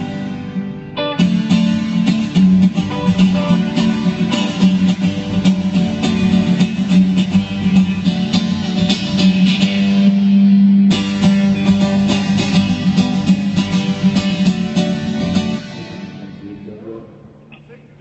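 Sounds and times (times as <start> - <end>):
folk band playing: 0.0 - 16.6
strummed and picked guitar: 0.0 - 18.0.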